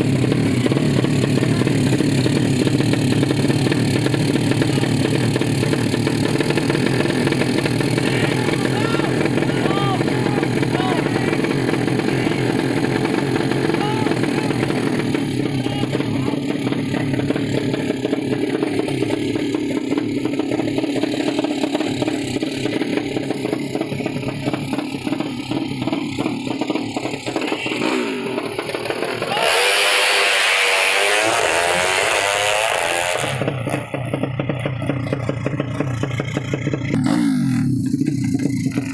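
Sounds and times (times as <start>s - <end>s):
motorcycle engine revving hard: 0.0s - 38.9s
motorcycle engines running: 0.0s - 38.9s.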